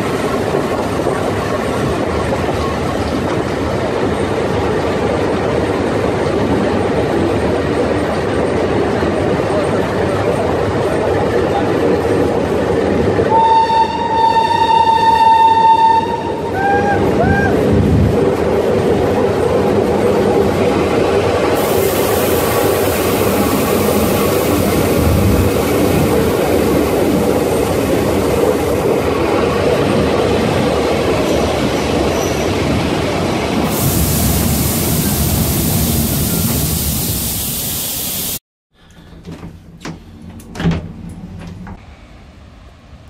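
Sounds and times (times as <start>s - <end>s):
train rolling along rails: 0.0s - 43.0s.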